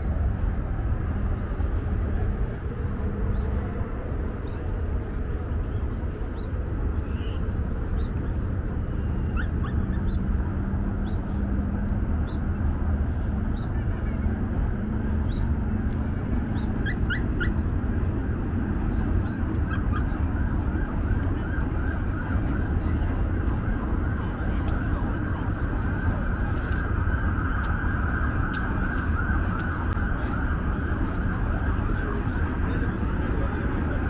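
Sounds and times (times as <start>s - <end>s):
outdoor background rumble: 0.0s - 34.0s.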